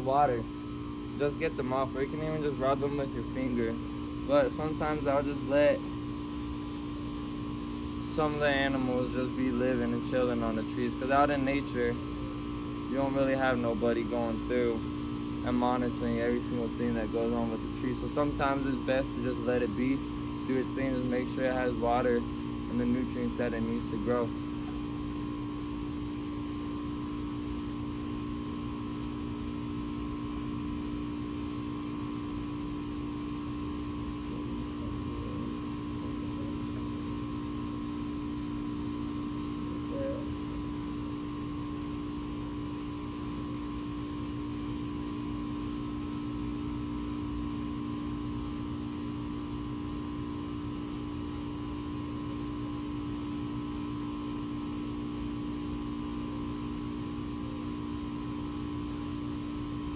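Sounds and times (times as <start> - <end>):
steady tonal hum: 0.0 - 59.9.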